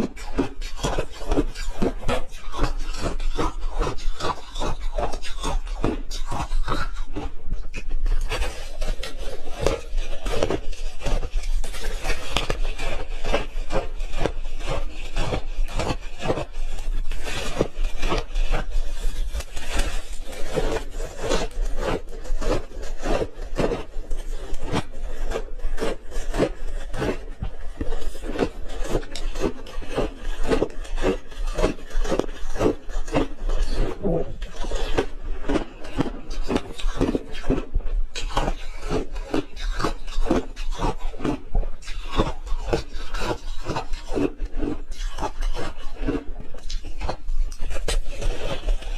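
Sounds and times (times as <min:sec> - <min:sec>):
ice being chewed: 0:00.0 - 0:48.9.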